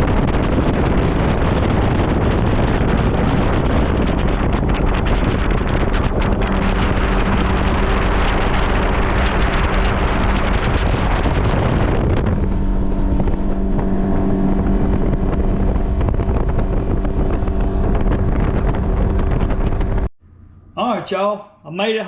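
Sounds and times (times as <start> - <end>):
outboard motor running: 0.0 - 20.7
wind on microphone: 0.0 - 20.7
water noise: 0.0 - 21.3.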